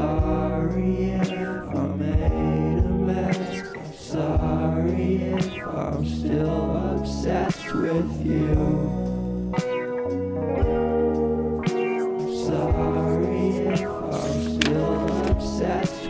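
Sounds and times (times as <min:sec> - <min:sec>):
music with singing voices: 0:00.0 - 0:16.0.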